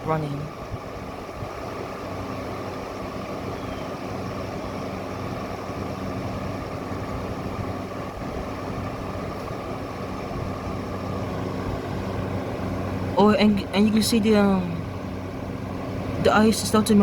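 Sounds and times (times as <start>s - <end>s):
air conditioner fan rushing air: 0.0s - 17.0s
low motor hum: 0.0s - 17.0s.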